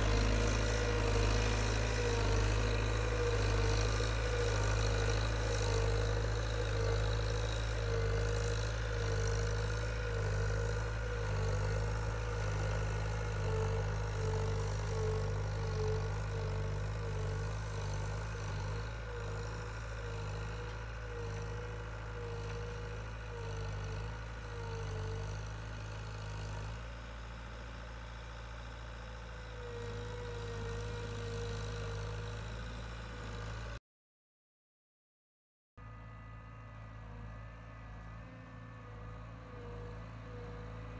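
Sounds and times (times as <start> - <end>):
diesel loader engine running: 0.0 - 33.8.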